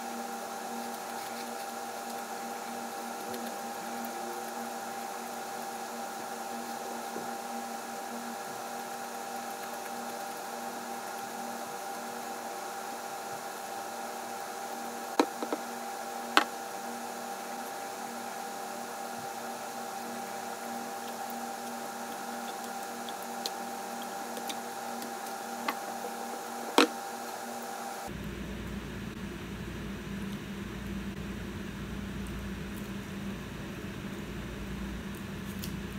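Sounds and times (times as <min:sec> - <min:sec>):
steady background hum: 0:00.0 - 0:35.9.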